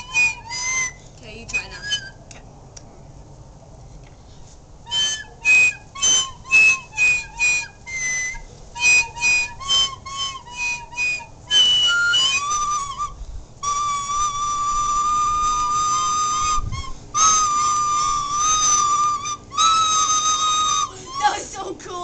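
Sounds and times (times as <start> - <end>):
recorder played unskilfully: 0.0 - 2.3, 4.8 - 21.8.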